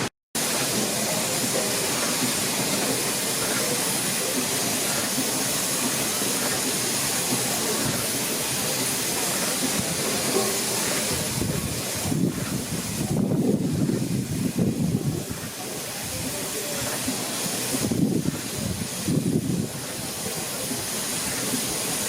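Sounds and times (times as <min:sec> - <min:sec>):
steam hissing: 0:00.0 - 0:22.0.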